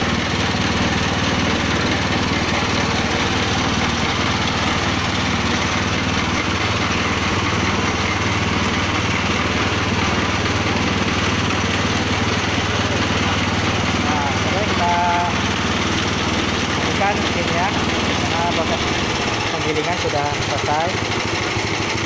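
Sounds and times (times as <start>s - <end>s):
grinding machine running: 0.0s - 22.0s.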